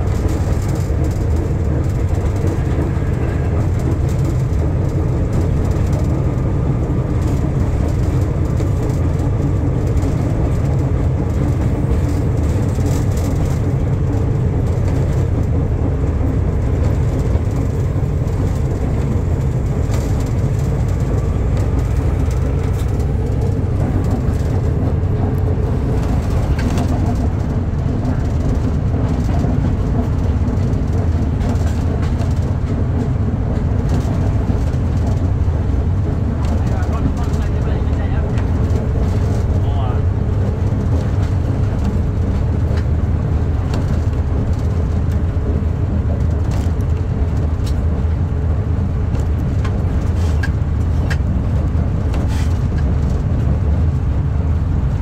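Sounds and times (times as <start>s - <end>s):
locomotive diesel engine running: 0.0s - 55.0s
train running noise: 0.0s - 55.0s.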